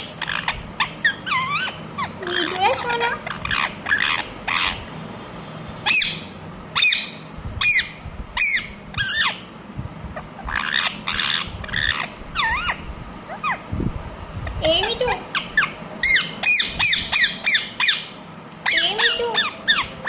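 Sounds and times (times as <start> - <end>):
parrot screeching: 0.0 - 4.9, 5.8 - 9.5, 10.2 - 13.6, 15.3 - 20.0.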